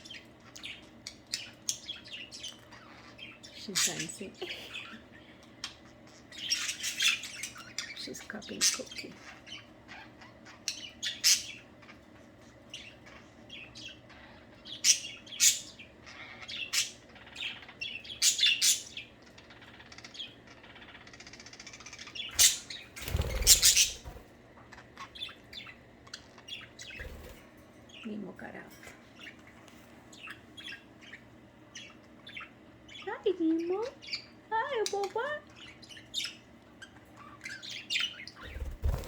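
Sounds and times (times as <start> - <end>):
budgerigars chirping: 0.0 - 28.3, 29.1 - 39.0.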